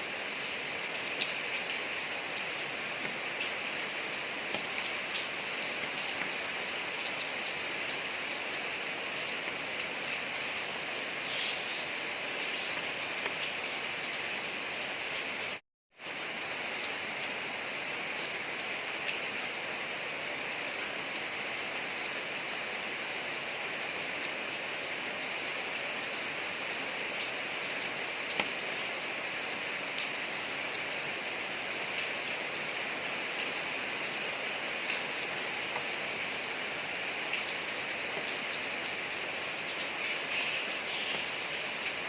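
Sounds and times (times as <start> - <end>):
rain falling on street: 0.0 - 42.0.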